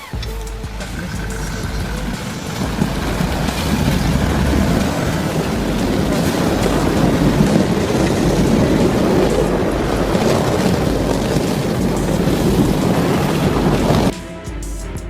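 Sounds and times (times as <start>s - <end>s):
vehicle moving: 0.0s - 15.0s
wind buffeting microphone: 0.0s - 15.0s.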